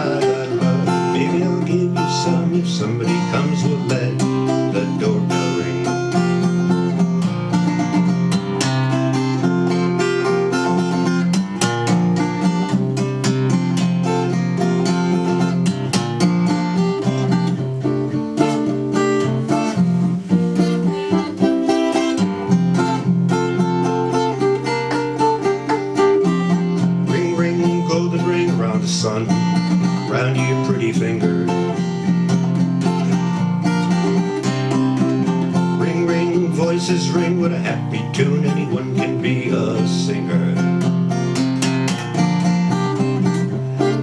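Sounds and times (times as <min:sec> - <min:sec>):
acoustic guitar plucked and strummed: 0:00.0 - 0:44.0.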